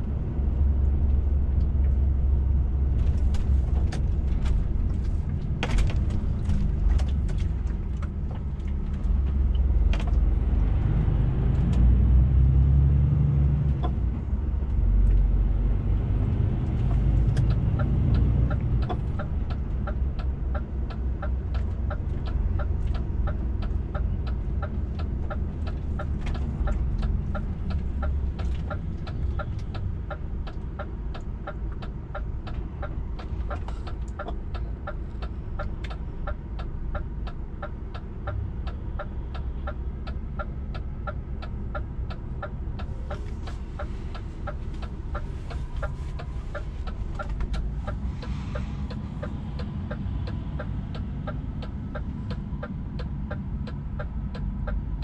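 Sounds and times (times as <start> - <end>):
turn signal ticking: 0.0 - 55.0.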